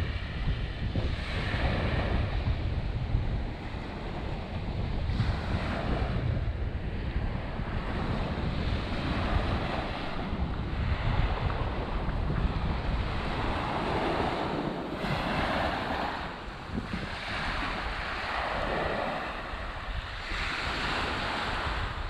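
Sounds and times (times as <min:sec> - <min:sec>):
small waves washing on sand: 0:00.0 - 0:22.0
wind buffeting microphone: 0:00.0 - 0:22.0.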